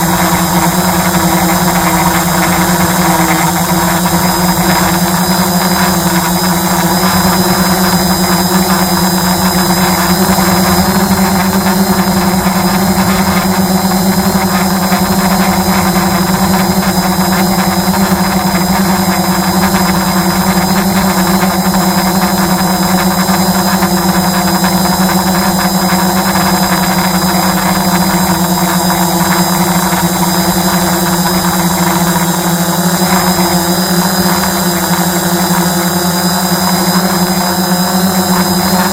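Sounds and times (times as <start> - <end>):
drone motors humming: 0.0 - 38.9.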